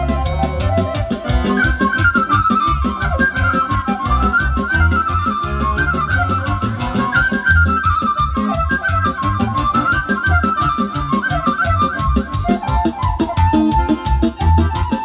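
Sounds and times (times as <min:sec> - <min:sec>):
flute playing folk melody: 0:00.0 - 0:15.0
steady bass beat: 0:00.0 - 0:15.0.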